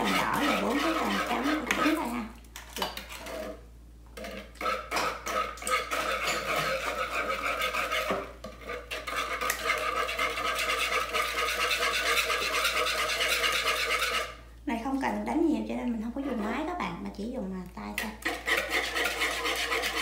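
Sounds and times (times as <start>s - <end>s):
whisk scraping and clicking in bowl: 0.0s - 3.6s, 4.2s - 14.4s, 16.2s - 16.6s, 17.9s - 20.0s.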